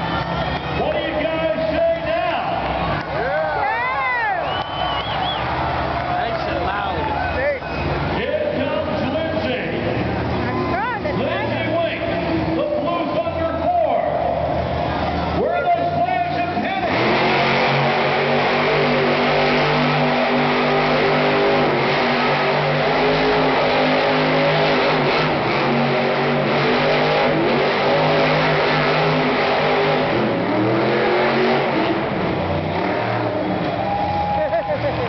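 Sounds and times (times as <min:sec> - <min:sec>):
truck engine at high revs: 0:03.9 - 0:35.0.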